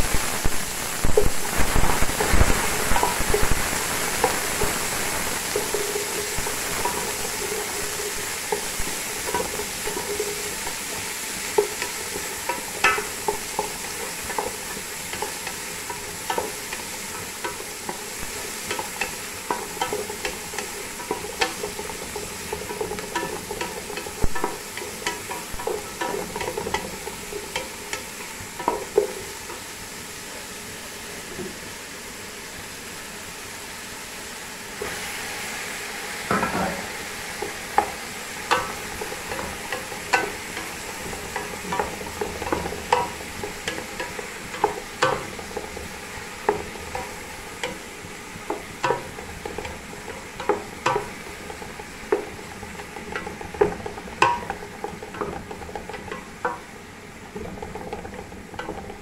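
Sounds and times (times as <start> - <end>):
onions frying in oil: 0.0 - 59.0
utensil scraping and knocking pot: 1.1 - 29.7, 36.3 - 59.0.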